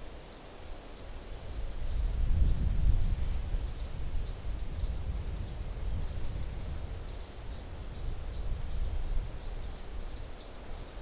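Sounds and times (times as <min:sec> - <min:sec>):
wind buffeting microphone: 0:01.4 - 0:10.4.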